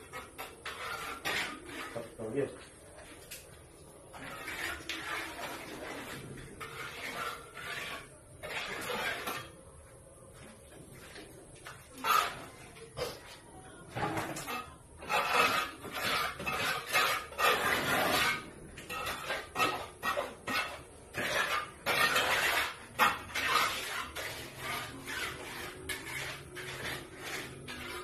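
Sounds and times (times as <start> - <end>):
metal trowel scraping: 0.0 - 9.8, 10.4 - 28.0.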